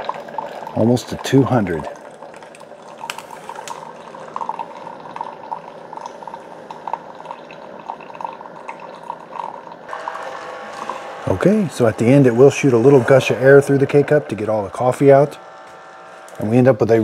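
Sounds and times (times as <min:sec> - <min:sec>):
coffee trickling into a mug: 0:00.0 - 0:16.4.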